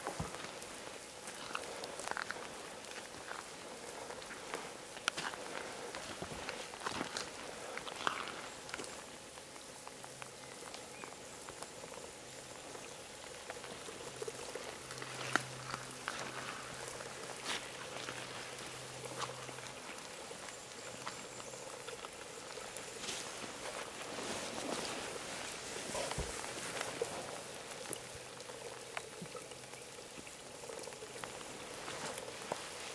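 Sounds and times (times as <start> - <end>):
light rain pattering: 0.0 - 32.9.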